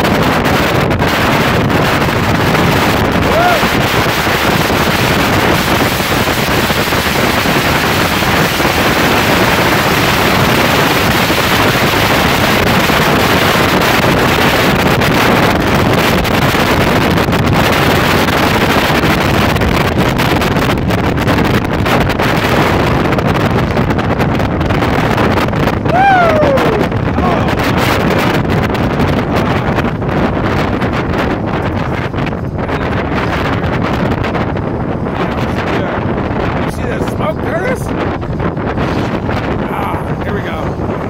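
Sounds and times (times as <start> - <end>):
road and trailer noise: 0.0 - 41.0
wind rushing over microphone: 0.0 - 41.0.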